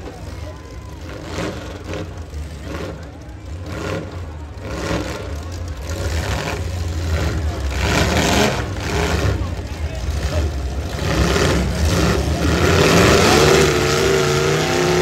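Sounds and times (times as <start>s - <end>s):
car engines revving: 0.0s - 15.0s
crowd voices: 0.0s - 15.0s.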